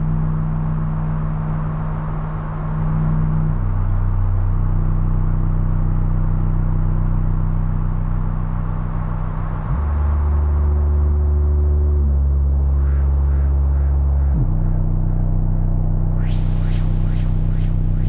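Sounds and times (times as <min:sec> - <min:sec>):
electronic drone low tones: 0:00.0 - 0:18.0.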